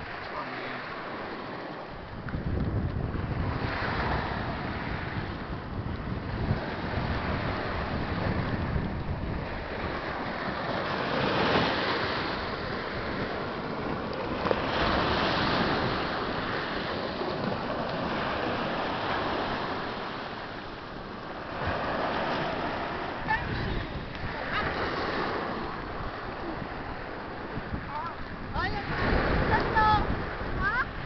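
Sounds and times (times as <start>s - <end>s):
waves washing up pebble beach: 0.0s - 31.0s
wind buffeting microphone: 0.0s - 31.0s.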